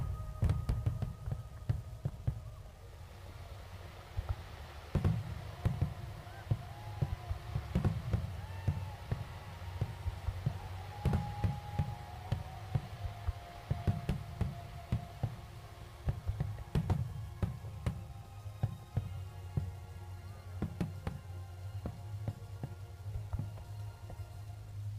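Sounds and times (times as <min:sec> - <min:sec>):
fireworks bangs and booms: 0:00.0 - 0:24.3
faint whistling fireworks: 0:00.0 - 0:24.9.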